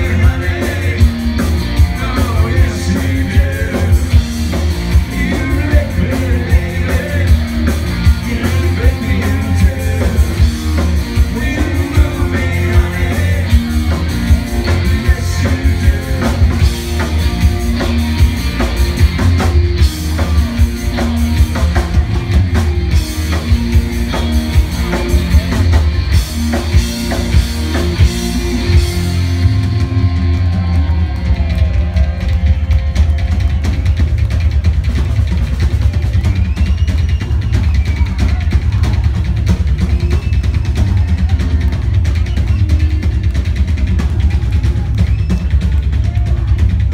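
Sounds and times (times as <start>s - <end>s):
bass guitar: 0.0s - 46.9s
drum kit beat: 0.0s - 46.9s
electric guitar: 0.0s - 46.9s.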